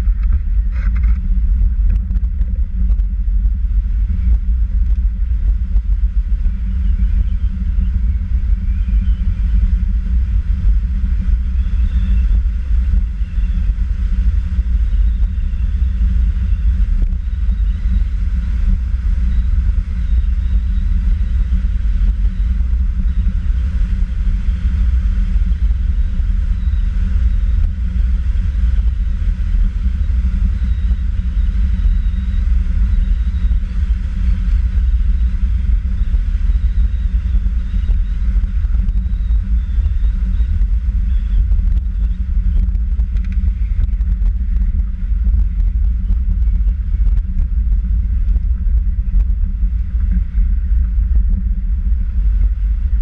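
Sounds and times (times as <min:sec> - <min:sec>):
wind over fairing: 0:00.0 - 0:53.0.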